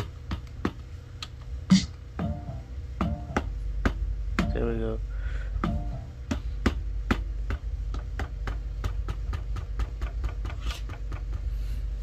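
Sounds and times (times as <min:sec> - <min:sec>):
fingers tapping rubber pads: 0:00.0 - 0:04.8, 0:05.6 - 0:12.0
steady low hum: 0:00.0 - 0:12.0.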